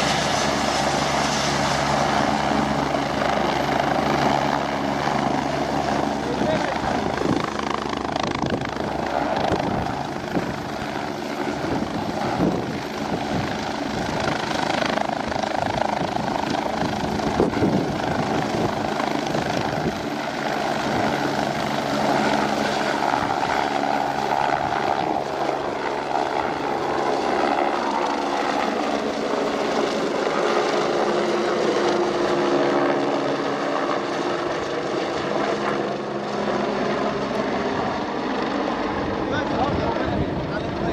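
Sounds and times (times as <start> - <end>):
helicopter turbines and rotor roar: 0.0 - 40.9.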